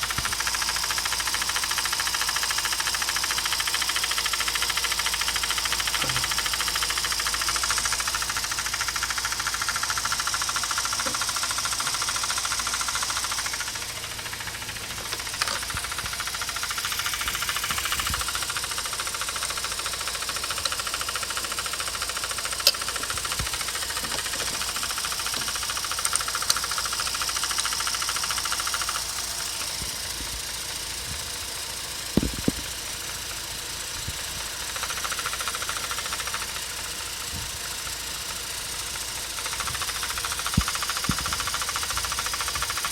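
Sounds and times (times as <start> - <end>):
fast knocking rattle: 0.0 - 42.9
rotary engine running: 0.0 - 42.9.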